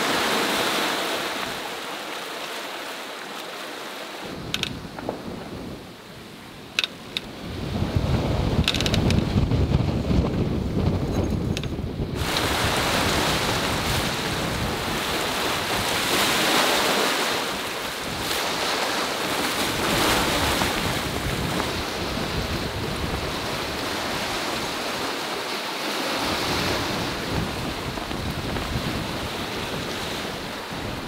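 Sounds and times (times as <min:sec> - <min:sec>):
wind buffeting microphone: 0:04.2 - 0:25.3, 0:26.0 - 0:31.0.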